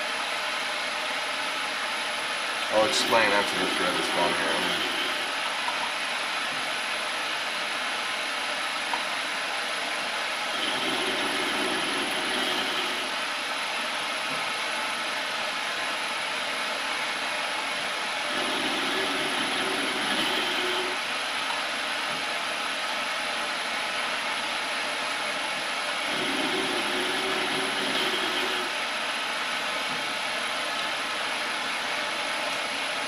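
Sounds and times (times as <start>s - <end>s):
metal lathe running: 0.0s - 23.7s, 25.8s - 33.0s.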